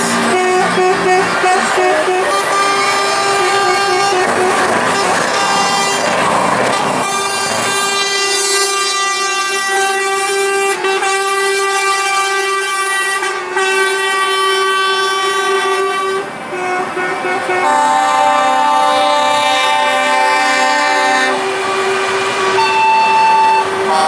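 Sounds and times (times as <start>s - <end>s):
heavy truck passing: 0.0s - 24.0s
truck air horn blowing: 0.0s - 24.0s.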